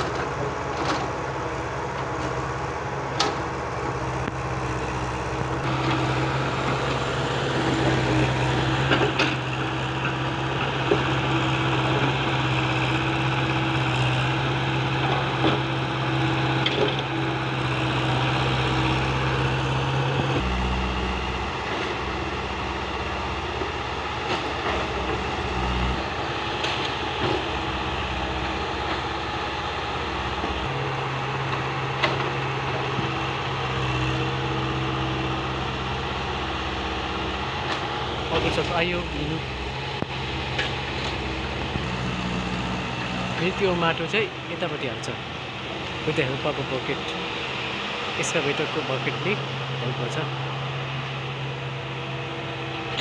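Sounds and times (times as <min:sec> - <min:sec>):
excavator diesel engine: 0:00.0 - 0:53.0.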